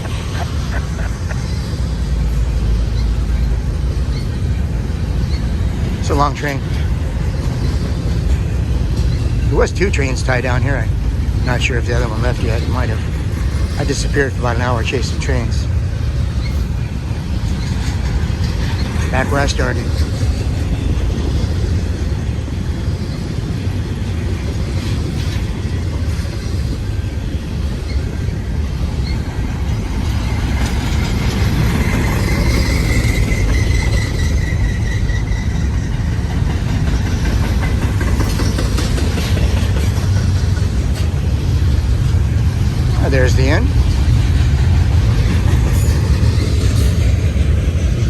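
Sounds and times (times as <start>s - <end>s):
freight train rumbling past: 0.0s - 48.0s.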